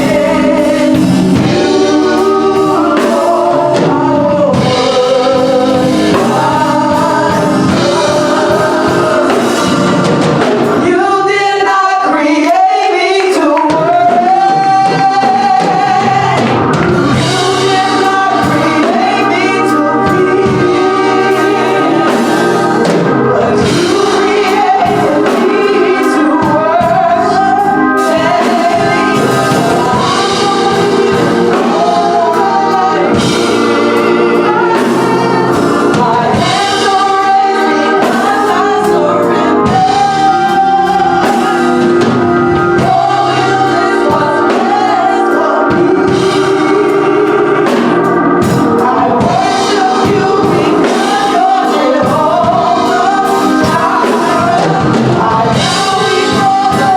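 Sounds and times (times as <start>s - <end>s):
gospel singing: 0.0s - 56.9s
instrumental accompaniment: 0.0s - 56.9s.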